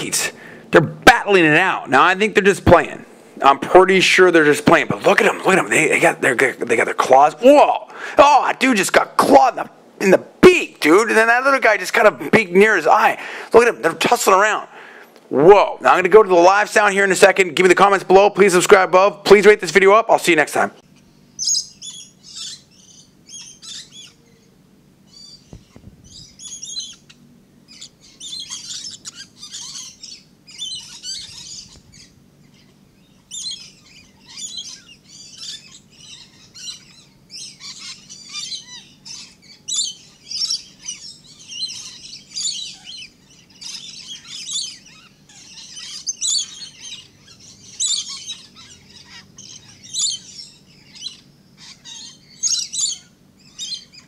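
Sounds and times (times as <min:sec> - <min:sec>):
lorikeets chattering calls: 0:00.0 - 0:15.0, 0:15.8 - 0:54.0.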